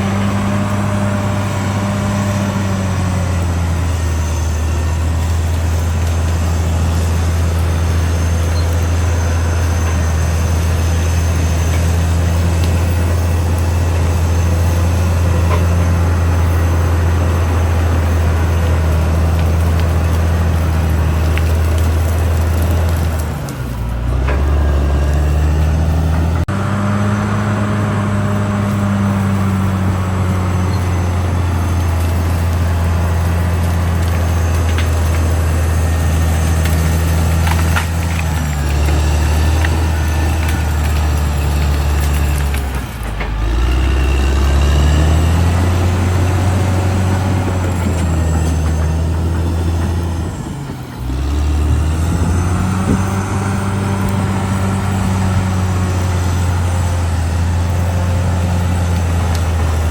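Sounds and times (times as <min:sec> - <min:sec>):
bulldozer diesel engine working: 0:00.0 - 0:59.9.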